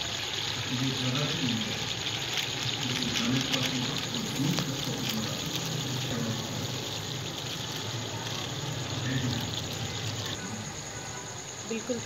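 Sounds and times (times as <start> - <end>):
meat sizzling in a pot: 0.0 - 10.4.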